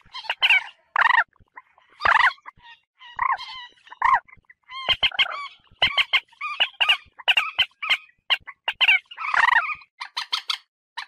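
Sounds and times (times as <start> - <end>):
moorhen croaking calls: 0.0 - 10.7.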